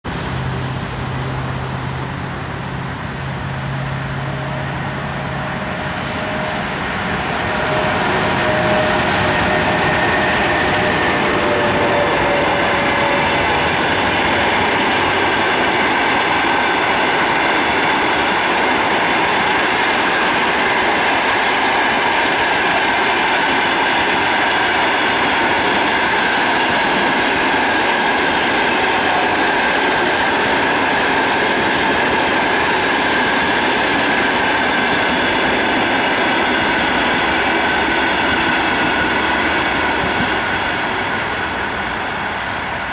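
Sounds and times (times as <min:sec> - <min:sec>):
train wheels rushing on rail: 0:00.0 - 0:42.9.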